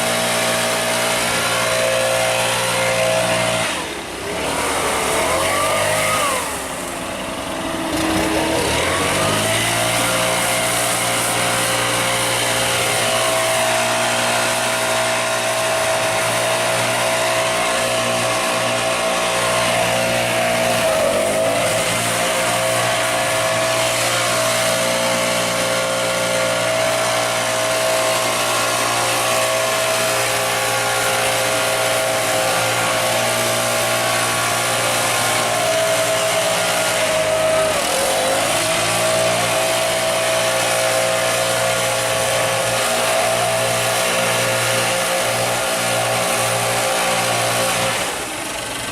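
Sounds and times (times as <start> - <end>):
leaf blower engine running: 0.0 - 48.9.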